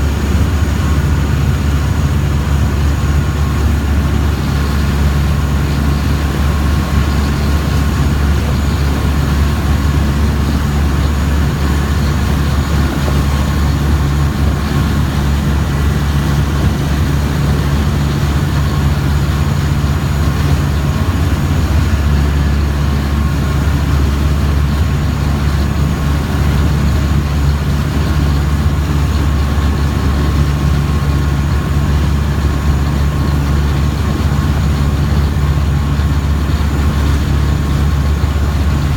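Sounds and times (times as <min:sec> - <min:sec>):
boat engine drone: 0:00.0 - 0:38.9
constant hum: 0:00.0 - 0:38.9.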